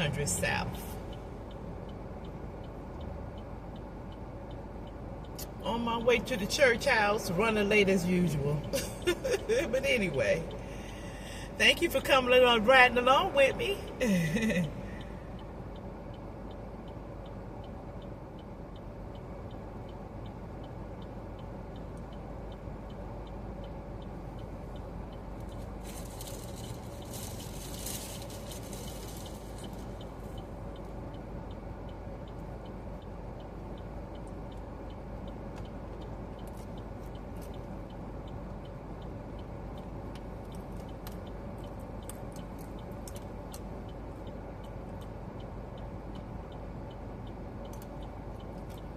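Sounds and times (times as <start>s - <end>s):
car engine and road noise: 0.0s - 48.9s
turn signal ticking: 0.0s - 48.9s.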